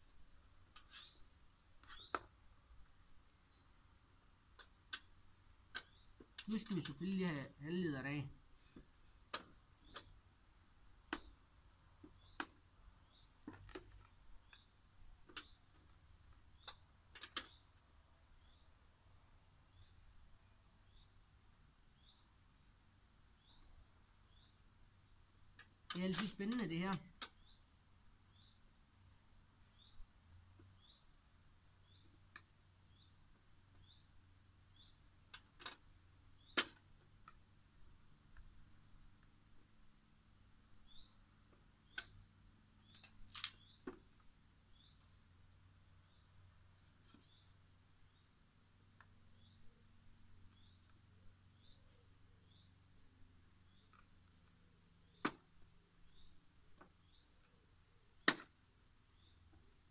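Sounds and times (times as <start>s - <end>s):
faint bird chirps: 0.0s - 2.3s, 4.5s - 10.2s, 12.0s - 35.4s, 36.2s - 36.7s, 40.7s - 43.9s, 44.6s - 58.3s, 59.0s - 59.9s.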